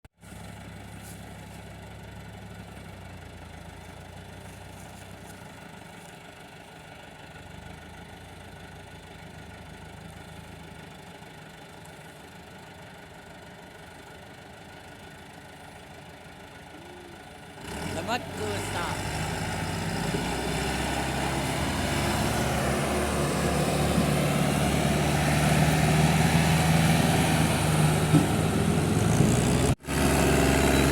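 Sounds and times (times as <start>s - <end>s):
tractor diesel engine running: 0.2s - 30.9s.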